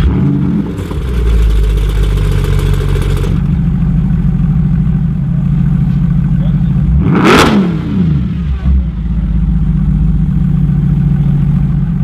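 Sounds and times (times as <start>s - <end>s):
car engine idling: 0.0s - 7.1s, 7.8s - 12.0s.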